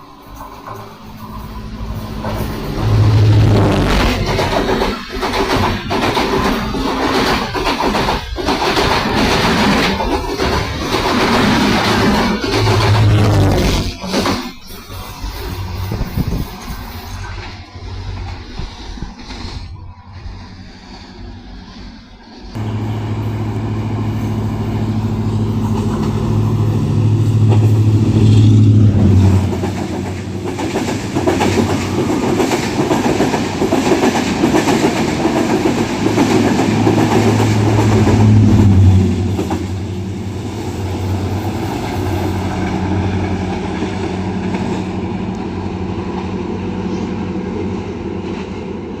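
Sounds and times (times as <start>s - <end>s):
train engine drone: 0.0s - 49.0s
train wheels clicking over rails: 0.0s - 49.0s.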